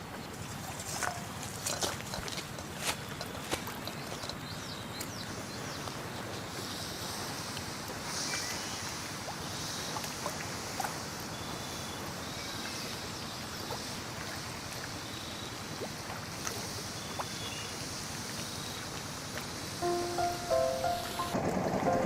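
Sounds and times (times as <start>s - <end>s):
wind: 0.0s - 22.0s.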